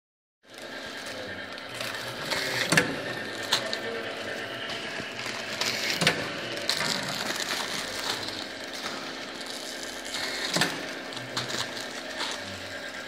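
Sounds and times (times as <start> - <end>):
printer mechanical hum: 0.5 - 13.0.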